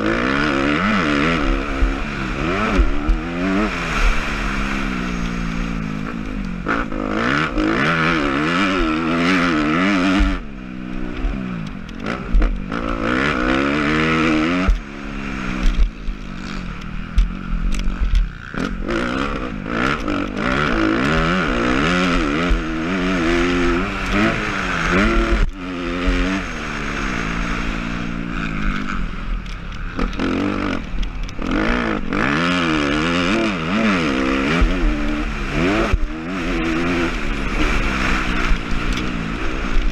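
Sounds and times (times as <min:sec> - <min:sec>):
motocross bike revving: 0:00.0 - 0:39.9.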